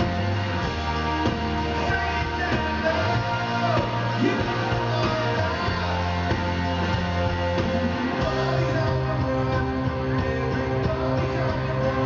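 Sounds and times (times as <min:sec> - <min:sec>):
bass guitar: 0:00.0 - 0:12.0
live rock band playing: 0:00.0 - 0:12.0.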